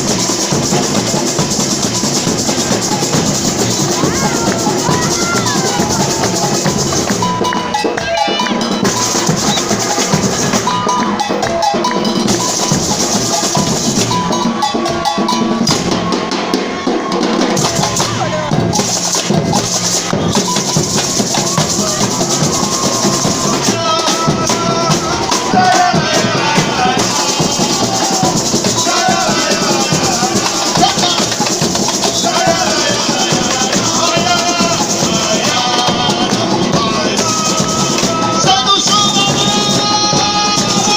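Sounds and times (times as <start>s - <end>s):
samba percussion band: 0.0s - 40.9s.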